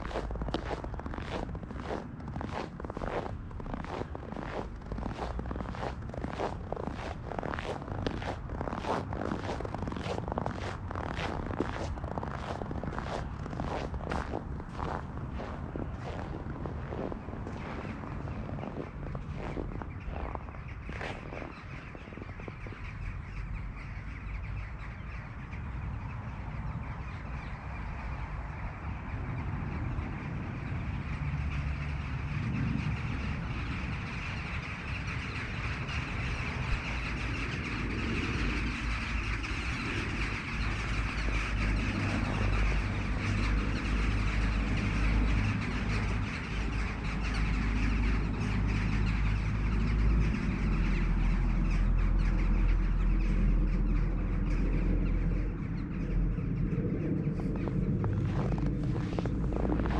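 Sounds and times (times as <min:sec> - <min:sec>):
jackdaws calling: 0:00.0 - 0:28.6, 0:31.0 - 0:59.9
low rumble: 0:00.0 - 0:59.9.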